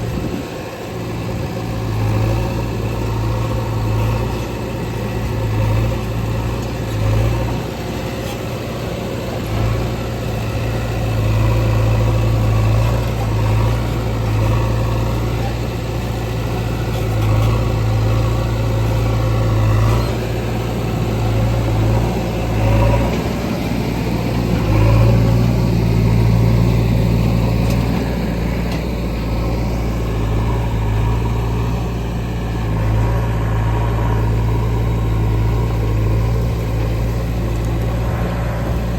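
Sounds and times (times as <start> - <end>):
heavy diesel engine under load: 0.0 - 38.9.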